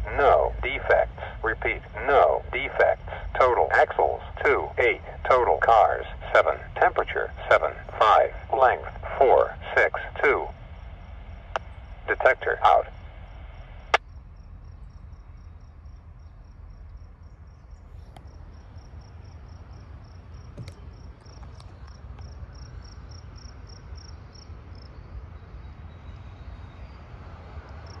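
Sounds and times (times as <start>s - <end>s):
low background rumble: 0.0s - 27.3s
insect chirping: 0.0s - 28.0s.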